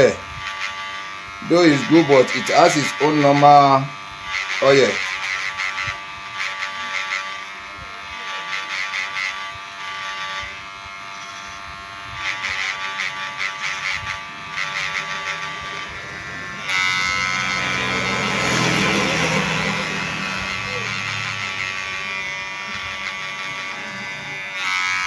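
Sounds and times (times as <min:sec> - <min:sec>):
hair clipper buzzing: 0:00.0 - 0:25.0.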